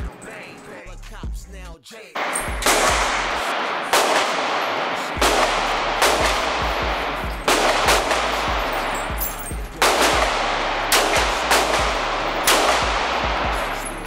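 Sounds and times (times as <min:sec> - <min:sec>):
pistol shots echoing indoors: 0:02.2 - 0:14.0.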